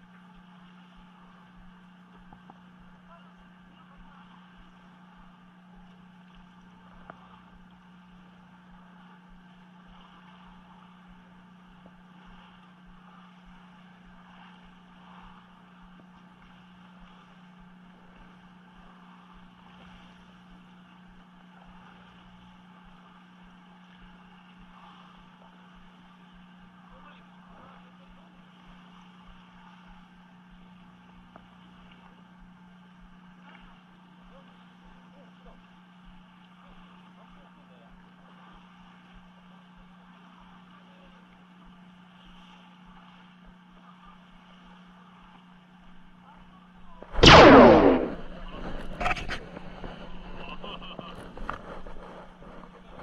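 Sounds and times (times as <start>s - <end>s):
boat motor humming: 0.0s - 47.5s, 48.2s - 53.0s.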